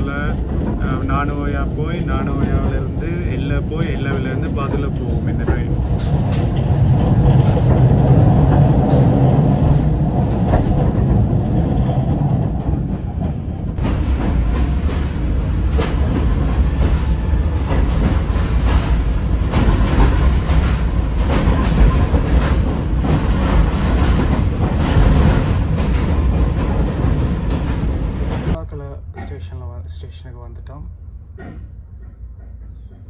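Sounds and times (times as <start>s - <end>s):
train clacking in tunnel: 0.0s - 33.0s
train wheels rumbling on rails: 0.0s - 33.0s.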